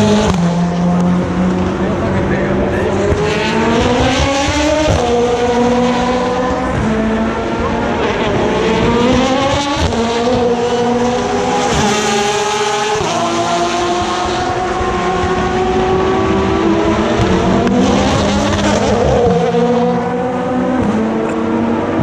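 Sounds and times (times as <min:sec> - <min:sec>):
race car accelerating: 0:00.0 - 0:22.0
race car engines downshifting: 0:00.0 - 0:22.0.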